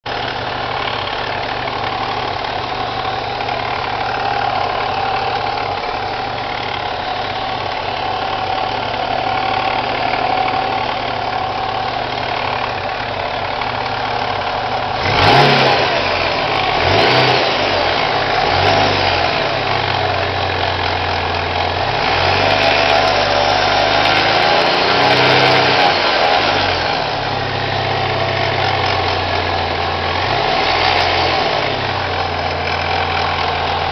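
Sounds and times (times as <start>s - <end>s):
car engine idling and revving: 0.1s - 33.9s
strange engine noise: 0.1s - 33.9s.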